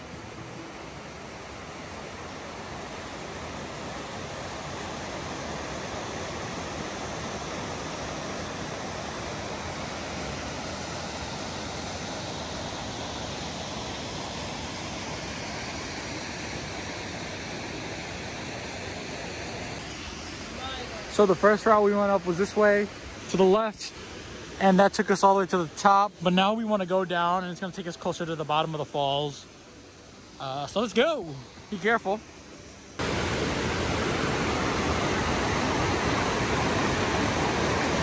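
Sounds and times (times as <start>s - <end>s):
waterfall roar: 0.0s - 25.8s, 33.0s - 38.0s.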